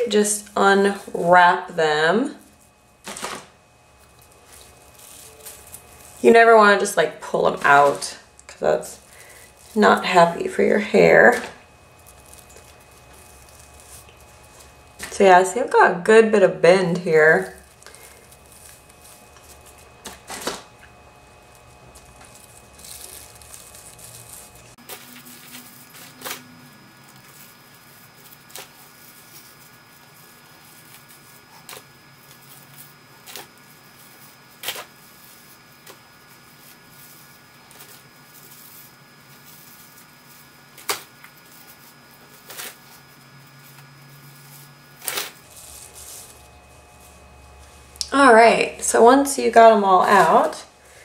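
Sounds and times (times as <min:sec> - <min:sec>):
rustling of hair and rollers: 0:00.0 - 0:15.8, 0:16.9 - 0:51.0
faint steady hum: 0:00.0 - 0:51.0.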